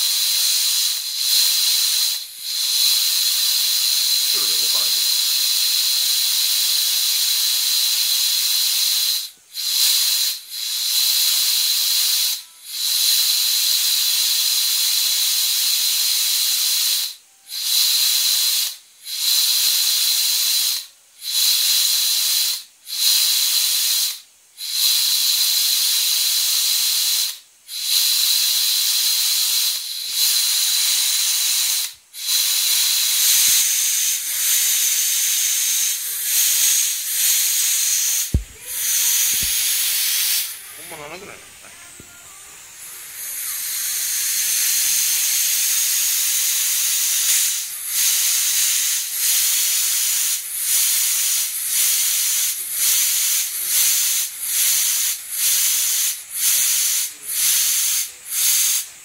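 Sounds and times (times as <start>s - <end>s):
compressed air hissing: 0.0s - 59.0s.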